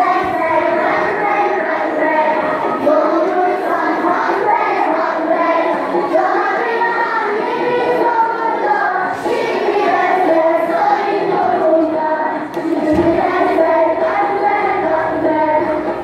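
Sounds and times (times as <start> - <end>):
children singing together: 0.0 - 16.0.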